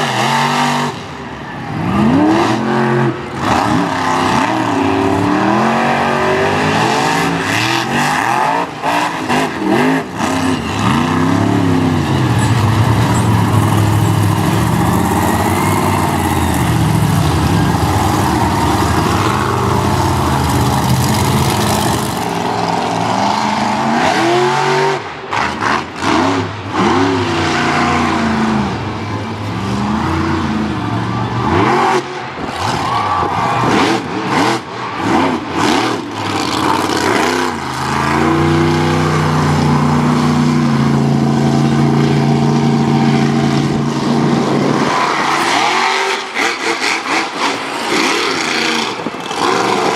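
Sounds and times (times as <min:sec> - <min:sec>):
monster truck engine revving: 0:00.0 - 0:49.9.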